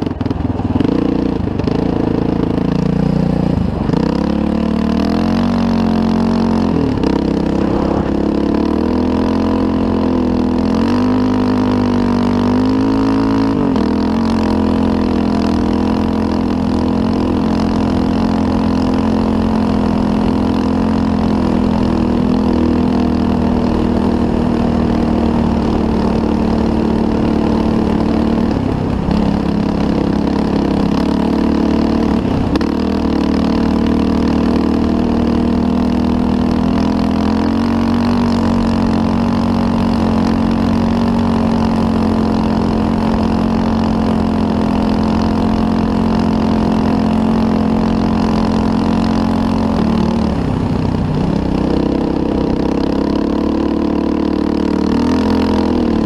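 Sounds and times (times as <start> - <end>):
off-road vehicle engine: 0.0 - 56.0.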